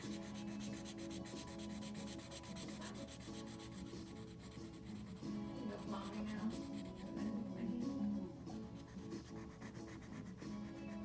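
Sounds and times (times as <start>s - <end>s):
marker scribbling on paper: 0.0s - 7.4s, 8.5s - 11.0s
faint music with held notes: 0.0s - 11.0s.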